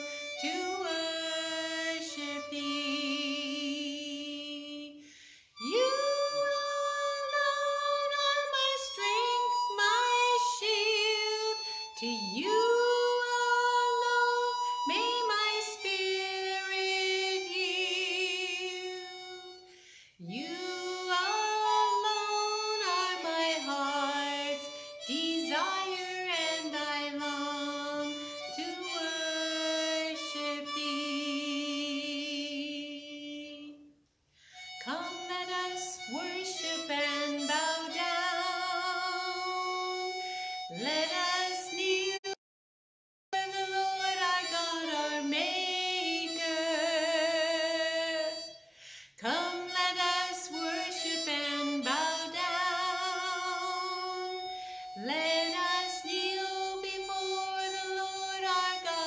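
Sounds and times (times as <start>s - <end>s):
woman singing with vibrato: 0.0s - 5.0s, 5.6s - 33.9s, 34.7s - 42.4s, 43.4s - 59.0s
harmonica: 0.0s - 42.4s, 43.4s - 59.0s.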